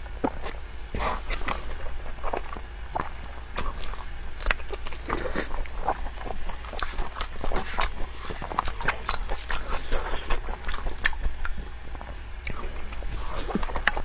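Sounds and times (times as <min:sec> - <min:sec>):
chewing and biting: 0:00.1 - 0:14.0.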